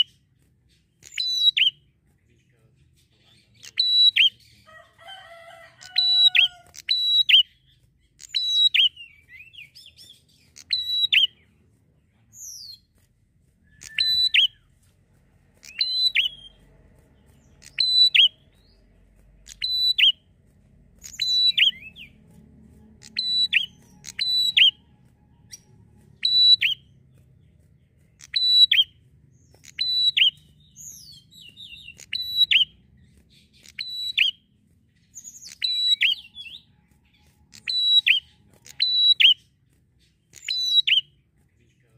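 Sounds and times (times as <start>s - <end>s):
bird singing sharp high chirps: 0.0s - 2.0s, 2.8s - 4.7s, 5.8s - 11.6s, 12.3s - 13.0s, 13.6s - 14.9s, 15.6s - 20.3s, 21.0s - 41.2s.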